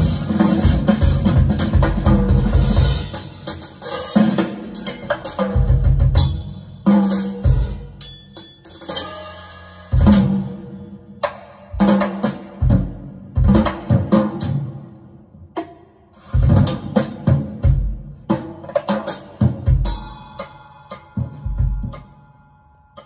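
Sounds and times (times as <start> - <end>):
drum kit strokes: 0.0 - 22.2.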